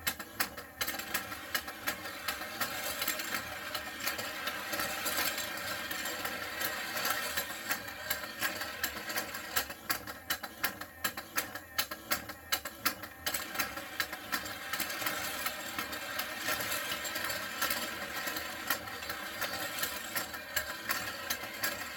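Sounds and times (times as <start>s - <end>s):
rapid clicking on plastic tracks: 0.0s - 21.9s
toy motor whirring and clattering: 0.0s - 21.9s.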